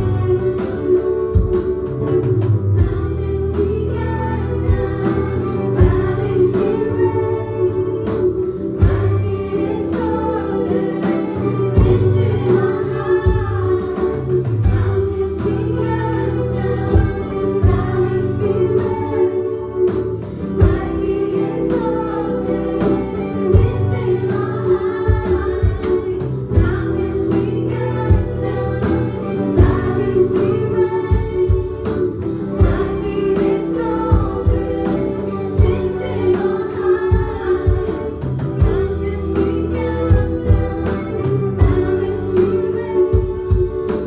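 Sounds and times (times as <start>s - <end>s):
people singing together: 0.0s - 1.7s, 2.8s - 44.0s
acoustic guitars: 0.0s - 44.0s.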